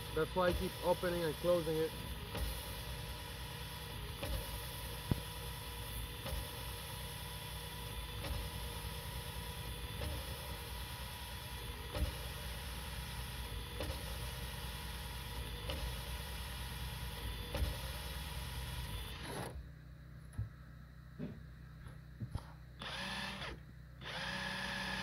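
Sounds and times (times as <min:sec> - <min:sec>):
drill motor hum: 0:00.0 - 0:19.6, 0:22.8 - 0:25.0.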